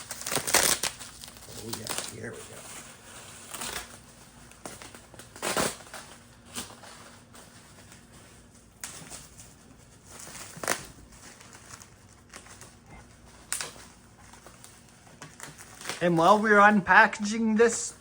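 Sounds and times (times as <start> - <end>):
packing material crinkling: 0.0 - 18.0.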